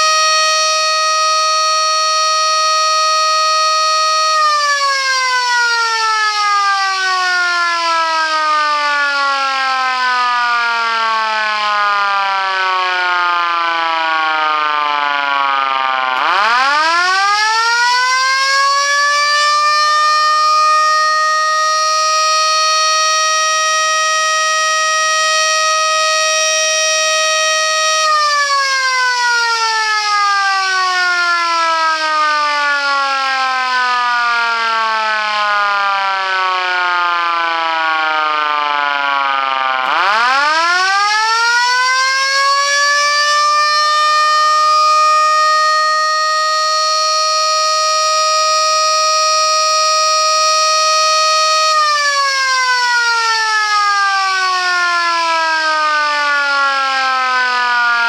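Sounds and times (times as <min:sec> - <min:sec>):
electric siren wailing: 0:00.0 - 0:58.0.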